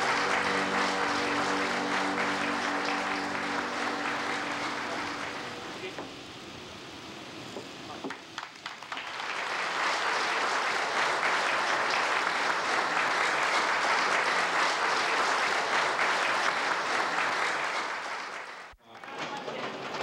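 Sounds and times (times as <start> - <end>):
audience applauding: 0.0 - 6.0, 8.1 - 20.0.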